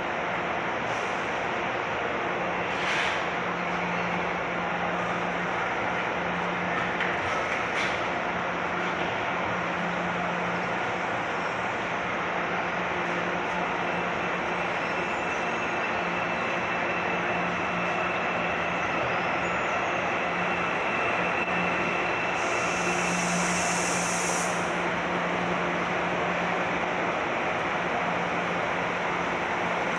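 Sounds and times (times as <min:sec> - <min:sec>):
metro train rail rumble: 0:00.0 - 0:29.9.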